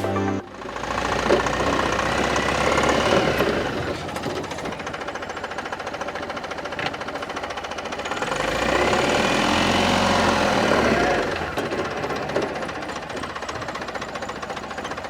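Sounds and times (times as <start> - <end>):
diesel engine clattering: 0.5 - 15.0.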